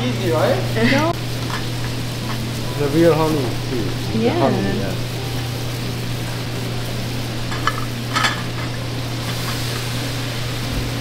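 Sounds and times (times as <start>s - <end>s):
food frying and sizzling: 0.0s - 11.0s
steady low hum: 0.0s - 11.0s.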